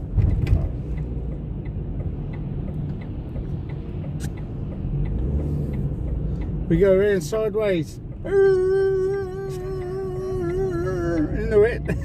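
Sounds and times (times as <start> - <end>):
car engine and road rumble: 0.0 - 12.0
faint even ticking: 0.6 - 12.0.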